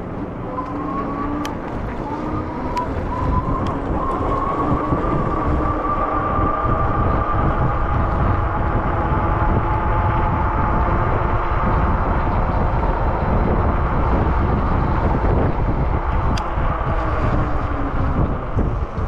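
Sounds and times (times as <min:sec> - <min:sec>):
bicycle road noise: 0:00.0 - 0:19.0
faint whining tones: 0:00.0 - 0:19.0
wind on microphone: 0:00.0 - 0:19.0.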